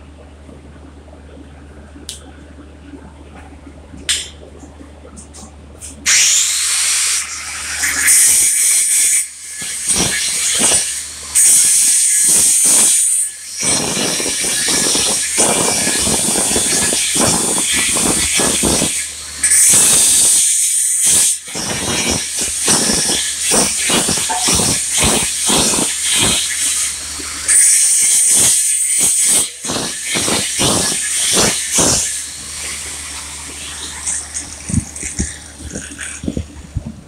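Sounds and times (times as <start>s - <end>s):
angle grinder grinding metal: 6.1s - 36.5s.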